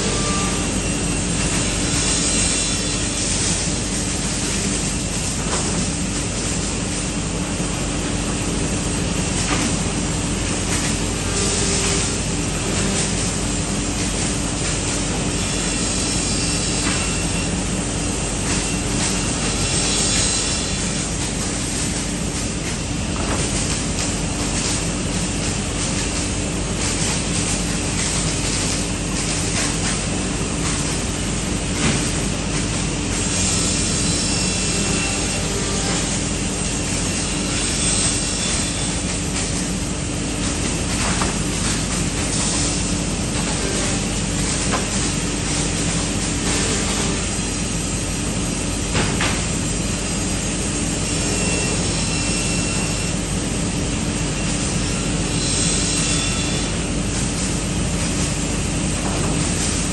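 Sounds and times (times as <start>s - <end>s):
saw machine drone: 0.0s - 59.9s.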